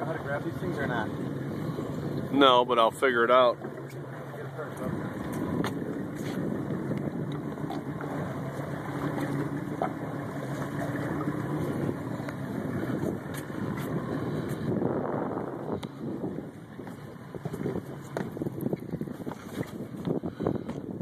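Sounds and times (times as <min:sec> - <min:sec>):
boat engine running: 0:00.0 - 0:21.0
water noise: 0:00.0 - 0:21.0
wind: 0:00.0 - 0:21.0.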